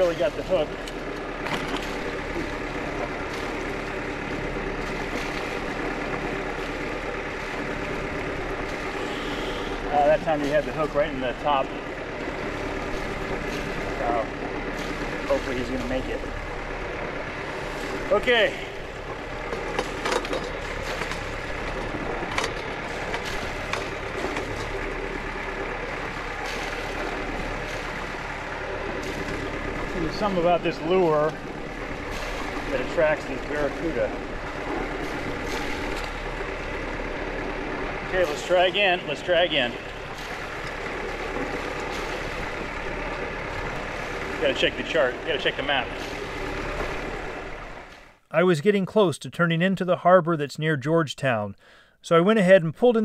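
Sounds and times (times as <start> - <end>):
sailboat rushing noise: 0.0 - 48.8
wind: 0.0 - 53.0.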